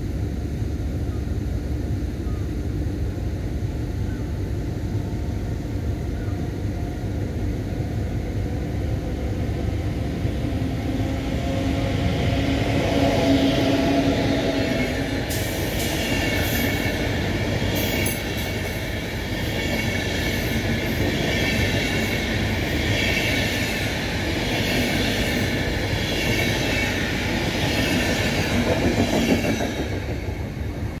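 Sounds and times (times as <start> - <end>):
train wheels rushing on rails: 2.8 - 31.0.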